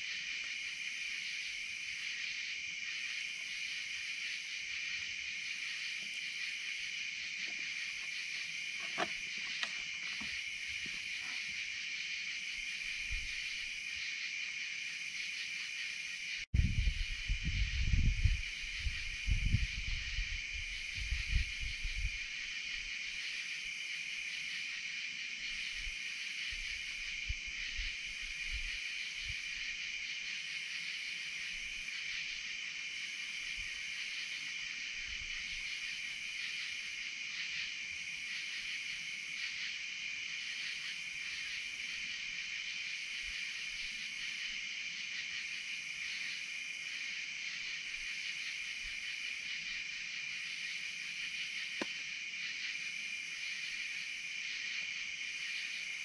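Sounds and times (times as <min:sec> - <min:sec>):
crickets trilling: 0:00.0 - 0:56.0
pulsing high insect call: 0:00.0 - 0:56.0.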